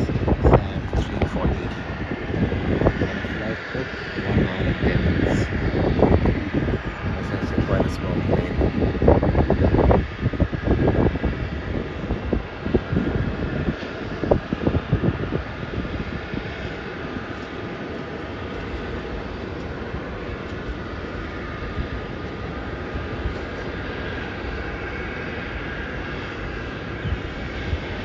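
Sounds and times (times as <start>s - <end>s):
airliner engines droning: 0.0s - 28.0s.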